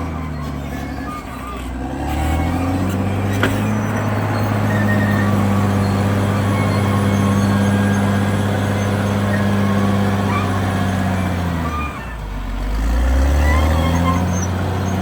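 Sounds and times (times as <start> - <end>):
faint squeaks: 0.0 - 12.3, 13.2 - 15.0
bulldozer diesel engine running: 0.0 - 15.0.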